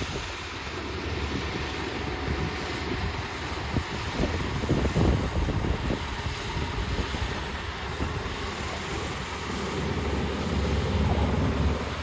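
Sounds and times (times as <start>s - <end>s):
distant combine harvester running: 0.0s - 12.0s
wind buffeting microphone: 0.0s - 12.0s.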